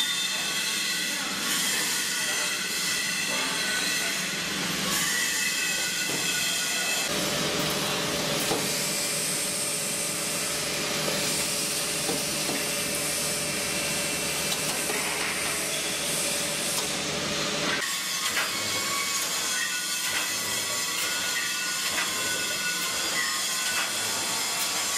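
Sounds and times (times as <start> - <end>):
welding machine hissing: 0.3 - 24.9.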